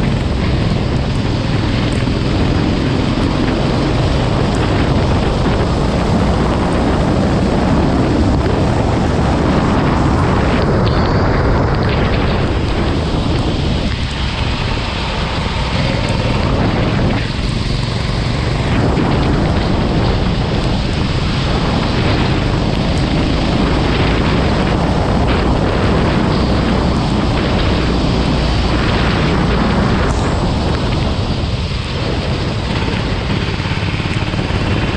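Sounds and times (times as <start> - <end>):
go-kart engine: 0.0 - 34.9
wind and water spray rush: 0.0 - 34.9.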